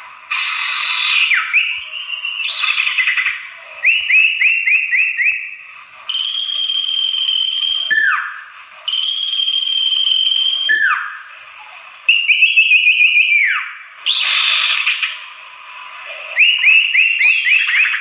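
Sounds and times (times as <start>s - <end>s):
bird whistling notes: 0.3s - 11.3s, 12.1s - 15.2s, 16.3s - 18.0s.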